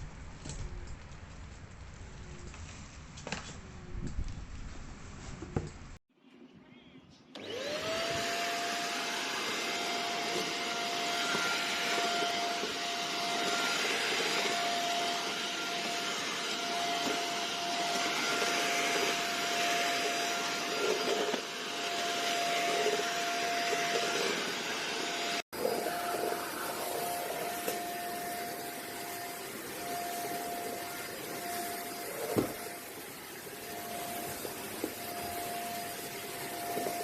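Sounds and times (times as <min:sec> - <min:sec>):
vacuum cleaner motor whining: 0:07.3 - 0:37.0.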